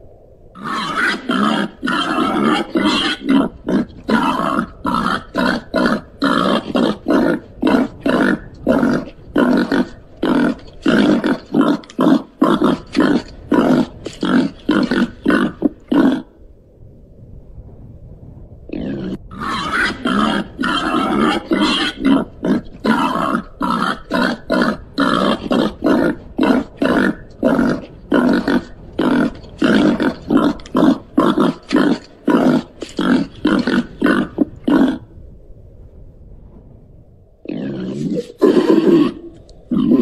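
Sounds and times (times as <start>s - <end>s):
pig grunting rapidly: 0.6s - 16.4s, 18.7s - 35.1s, 37.5s - 40.0s.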